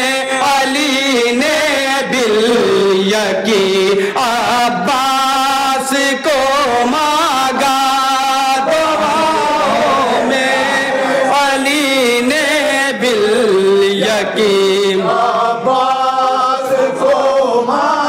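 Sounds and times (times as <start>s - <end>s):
lead reciter at microphone: 0.0s - 18.0s
men chanting: 0.0s - 18.0s.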